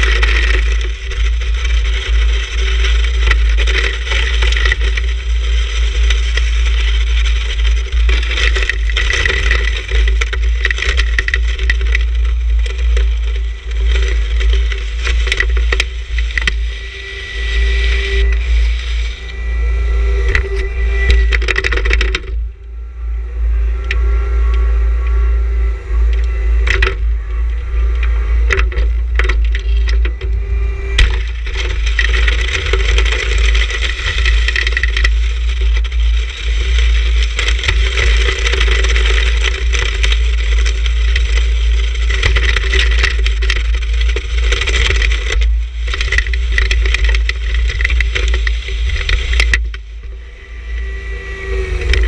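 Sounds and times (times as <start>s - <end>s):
diesel engine rumbling: 0.0s - 52.0s.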